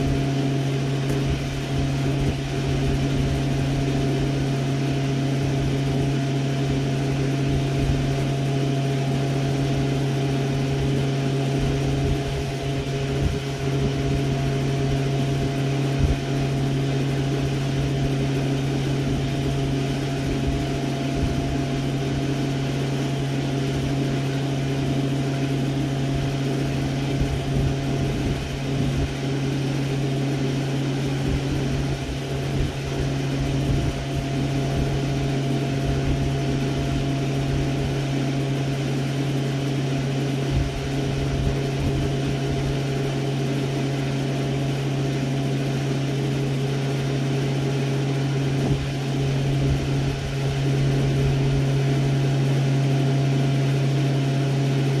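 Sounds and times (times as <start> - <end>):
low mechanical hum of idling engine: 0.0 - 55.0.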